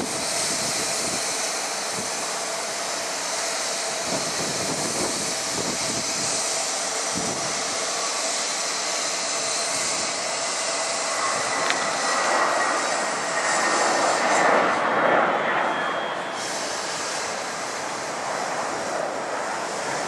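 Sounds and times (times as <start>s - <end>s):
jet engine roar: 0.0s - 20.0s
thin engine whine: 0.0s - 20.0s.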